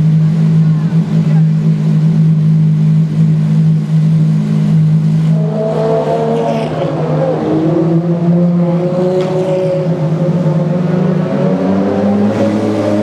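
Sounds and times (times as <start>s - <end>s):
car engine driving off: 0.0s - 13.0s
car engines idling: 0.0s - 13.0s.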